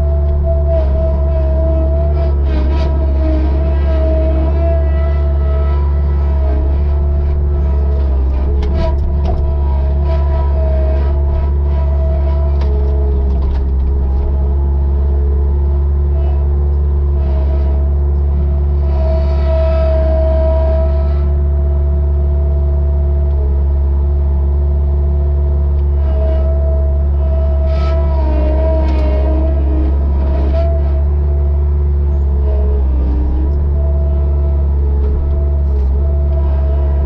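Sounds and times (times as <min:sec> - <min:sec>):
hydraulic whine: 0:00.0 - 0:37.0
loader engine running: 0:00.0 - 0:37.0.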